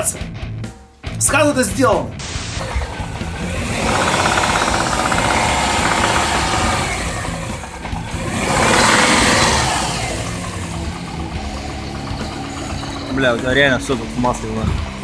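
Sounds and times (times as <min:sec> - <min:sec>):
engine running with rhythmic knock: 0:02.6 - 0:15.0.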